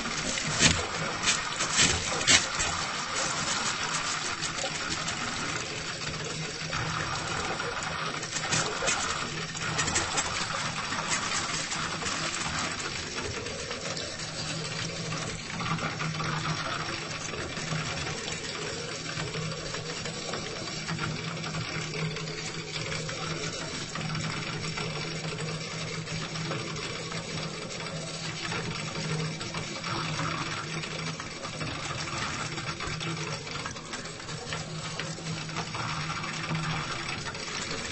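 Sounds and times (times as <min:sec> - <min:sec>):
faucet water running: 0:00.0 - 0:37.9.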